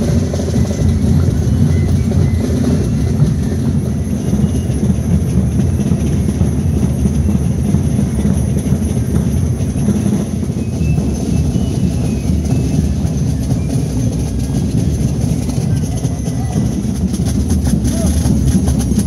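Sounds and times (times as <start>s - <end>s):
belt bells jingling: 0.0s - 19.0s
drums beating: 0.0s - 19.0s.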